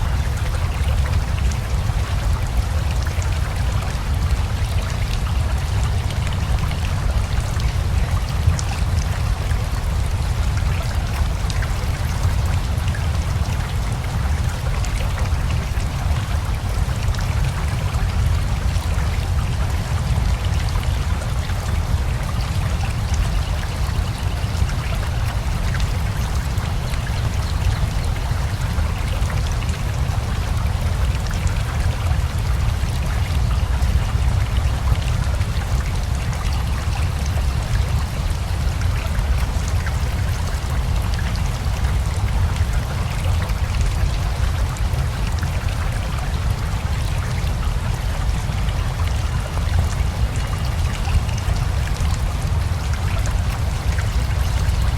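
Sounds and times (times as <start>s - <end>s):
flowing river: 0.0s - 54.9s
rain patter: 0.0s - 54.9s.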